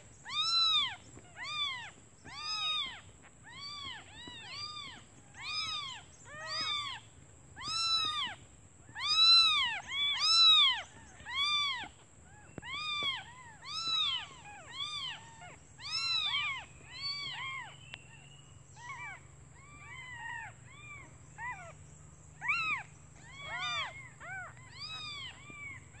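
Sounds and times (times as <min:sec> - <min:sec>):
kittens meowing: 0:00.2 - 0:26.0.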